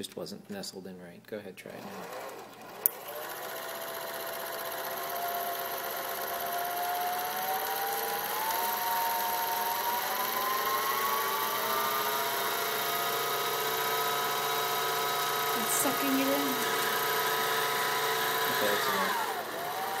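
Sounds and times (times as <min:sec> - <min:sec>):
sewing machine motor whining: 0:01.6 - 0:20.0.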